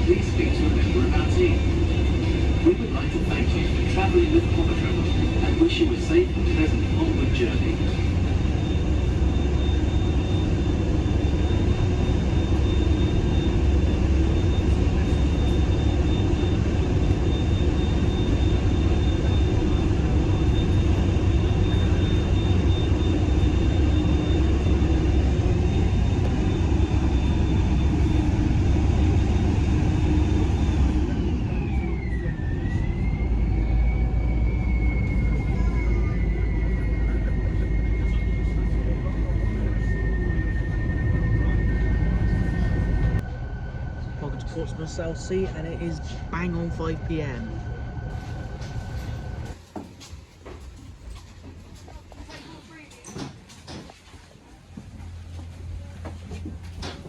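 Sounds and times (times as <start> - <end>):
hovercraft engine drone with whine: 0.0 - 57.0.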